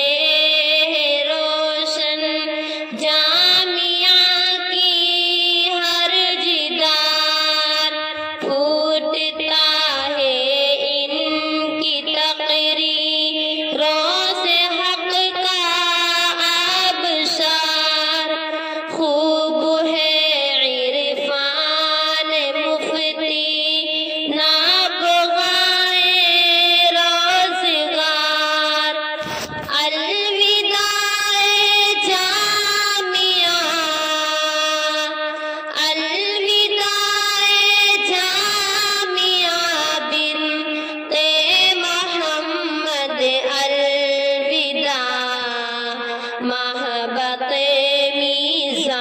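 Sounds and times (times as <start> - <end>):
woman singing slow devotional song: 0.0 - 49.0.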